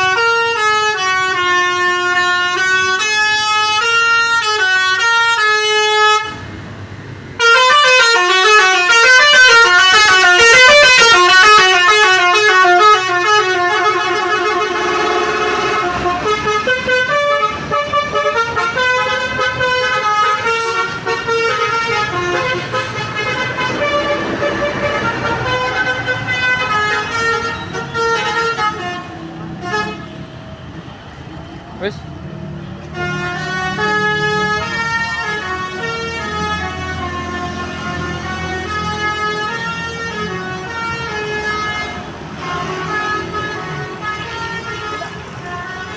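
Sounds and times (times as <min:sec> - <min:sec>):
multi-tone vehicle horn tune: 0:00.0 - 0:06.6, 0:07.4 - 0:30.4, 0:32.9 - 0:45.9.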